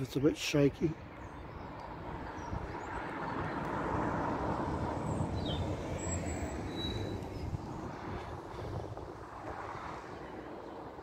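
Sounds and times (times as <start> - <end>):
vehicle passing on street: 1.2 - 11.0.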